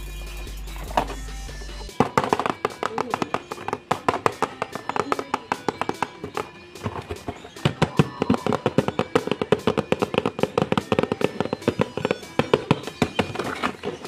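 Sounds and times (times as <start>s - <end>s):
music with fast percussive beat: 0.0s - 14.0s.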